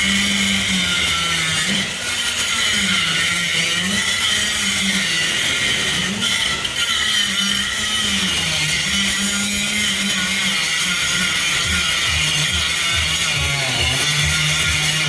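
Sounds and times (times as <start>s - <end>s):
power tool cutting steel: 0.0s - 15.0s.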